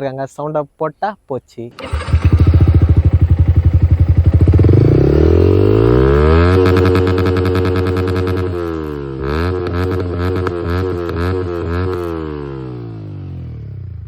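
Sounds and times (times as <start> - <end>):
motorcycle engine revving: 1.8 - 14.0.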